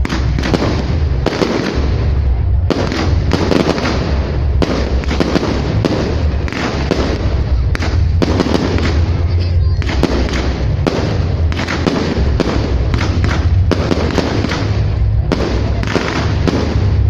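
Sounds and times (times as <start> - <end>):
fireworks banging: 0.0 - 17.0
fireworks crackling: 0.0 - 17.0.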